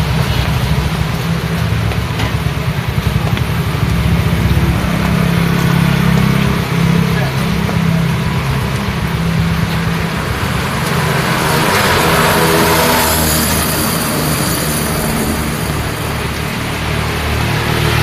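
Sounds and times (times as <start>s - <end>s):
tyres hissing on wet road: 0.0s - 18.0s
vehicle engines humming: 0.0s - 18.0s.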